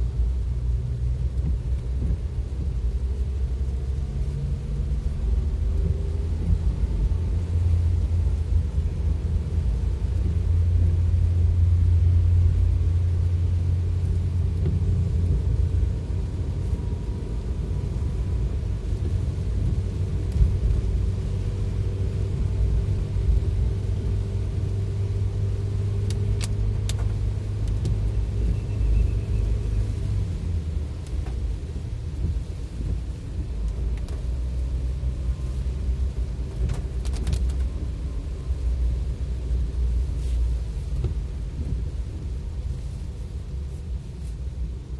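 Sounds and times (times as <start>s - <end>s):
faint engine hum: 0.0s - 44.9s
vehicle on wet road rumble: 0.0s - 44.9s.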